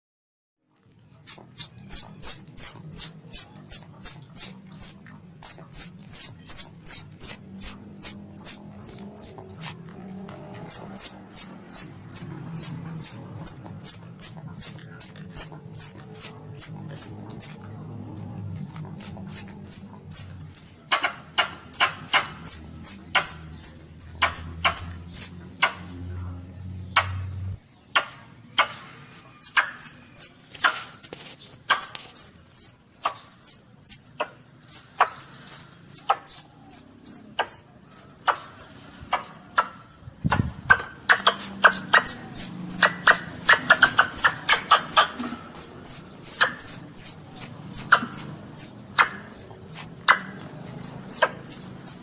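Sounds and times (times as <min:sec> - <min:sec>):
civet squeaking chirps: 0:01.2 - 0:17.7, 0:18.6 - 0:25.8, 0:28.6 - 0:38.4, 0:40.3 - 0:52.0.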